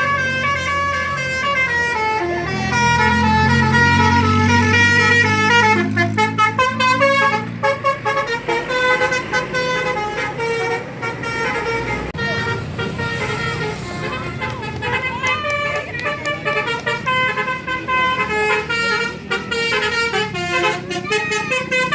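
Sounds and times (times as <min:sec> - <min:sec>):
bus engine running: 0:00.0 - 0:21.9
bus musical horns playing tunes: 0:00.0 - 0:21.9.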